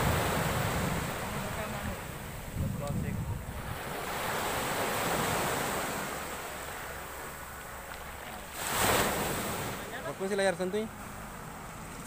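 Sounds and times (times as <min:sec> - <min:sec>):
sea waves breaking: 0:00.0 - 0:12.0.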